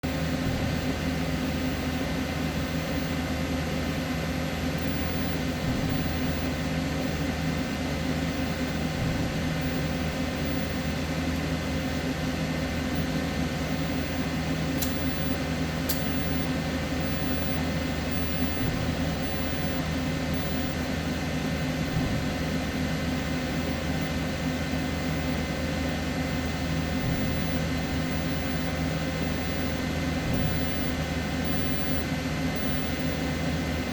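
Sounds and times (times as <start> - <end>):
welder electrical hum: 0.0 - 33.9.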